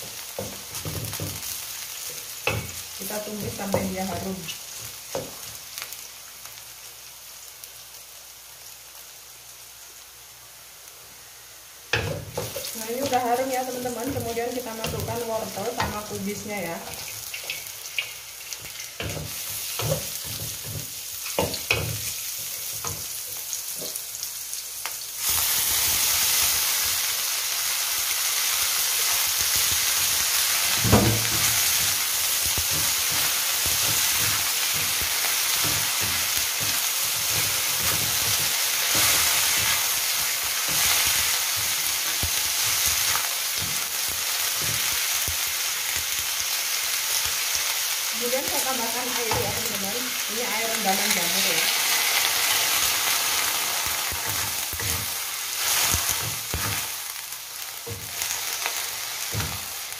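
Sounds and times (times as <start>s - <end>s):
loud oil sizzle: 0.0s - 59.9s.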